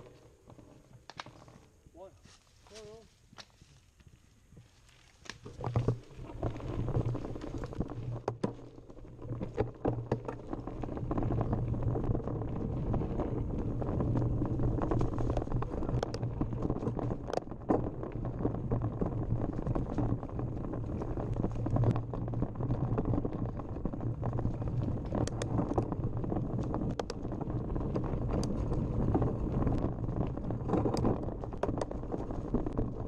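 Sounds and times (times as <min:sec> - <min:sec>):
bike tyres rumbling on dirt: 0:00.0 - 0:33.0.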